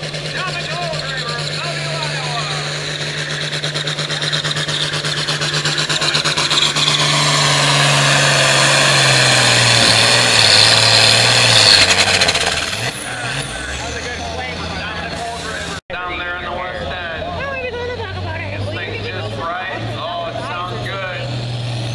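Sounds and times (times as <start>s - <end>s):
high engine whine: 0.0s - 21.9s
tractor diesel engine at full throttle: 0.0s - 21.9s.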